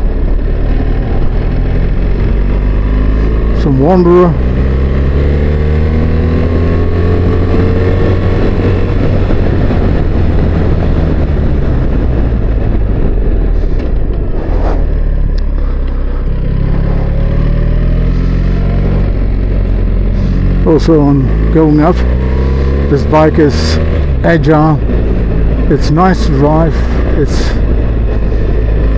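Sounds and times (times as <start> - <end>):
heavy wind and road rush: 0.0 - 28.9
motorcycle engine running: 0.0 - 28.9.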